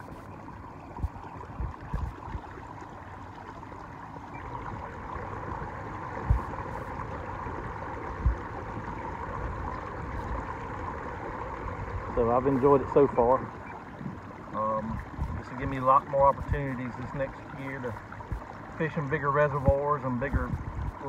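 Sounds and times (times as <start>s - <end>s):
water rushing along a hull: 0.0s - 21.0s.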